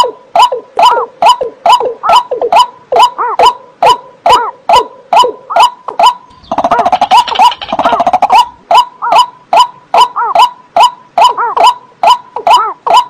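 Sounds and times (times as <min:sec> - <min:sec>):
wetland bird calls: 0:00.4 - 0:13.0.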